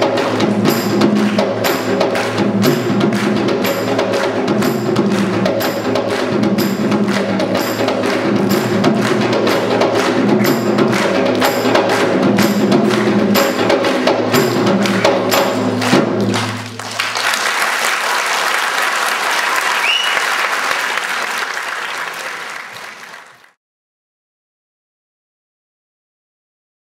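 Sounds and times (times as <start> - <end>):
drums and percussion music: 0.0 - 23.4
audience applauding: 1.2 - 23.6.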